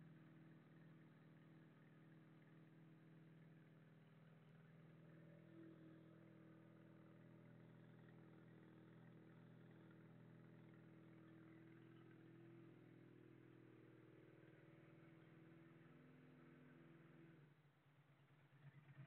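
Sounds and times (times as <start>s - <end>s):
faint motorcycle engine idling: 0.0s - 19.0s.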